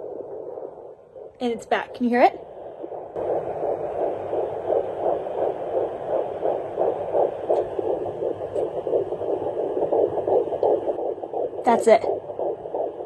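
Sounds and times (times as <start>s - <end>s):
fetal heartbeat whooshing pulses: 0.0s - 13.0s.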